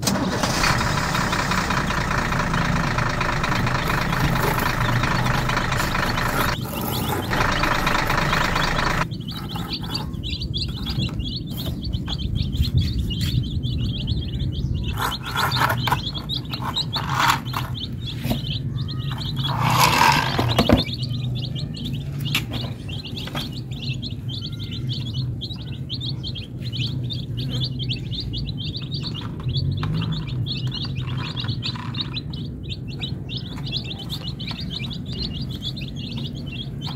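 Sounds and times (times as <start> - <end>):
baby chicks peeping: 0.0 - 36.9
engine-like running sound: 0.0 - 36.9.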